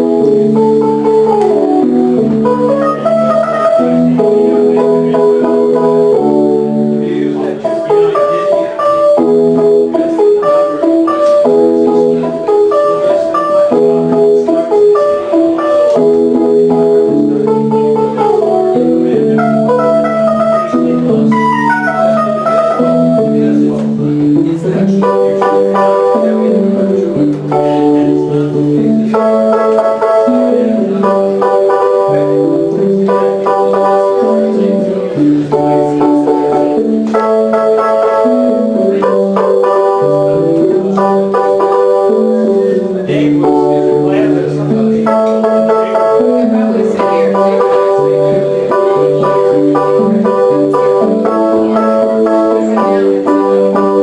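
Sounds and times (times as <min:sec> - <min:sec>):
keyboard synthesizer piece: 0:00.0 - 0:54.0.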